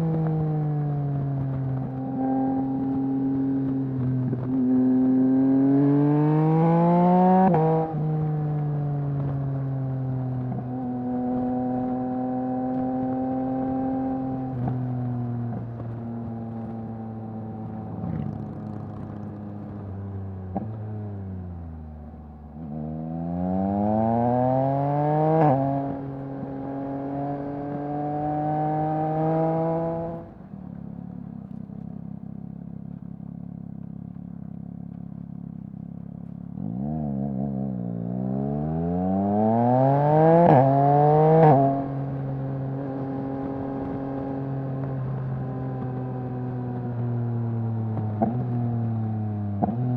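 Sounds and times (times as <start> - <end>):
motorcycle exhaust accelerating: 0.0 - 49.9.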